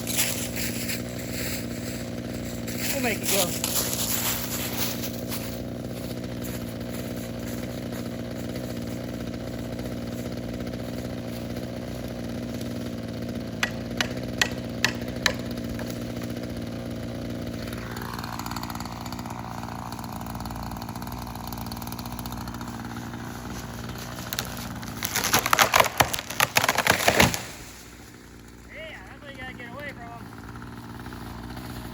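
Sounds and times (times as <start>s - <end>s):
chainsaw engine running: 0.0s - 31.9s
loud crackling: 0.0s - 31.9s.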